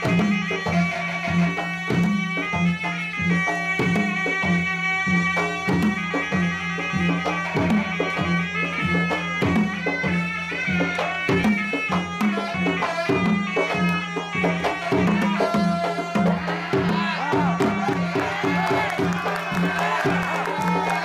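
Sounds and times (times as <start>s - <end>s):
hand drums rhythm: 0.0s - 21.0s
reed pipe melody: 0.0s - 21.0s.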